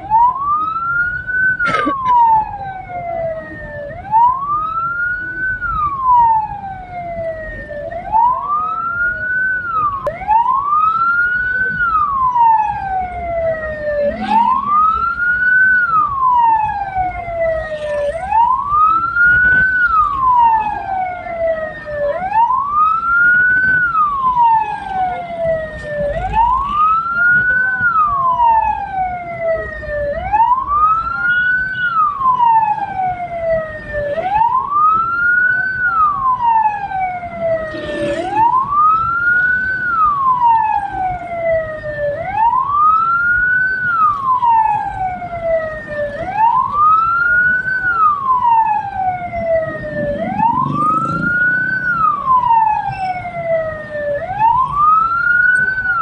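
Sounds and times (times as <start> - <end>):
vehicle siren wailing: 0.0 - 56.0.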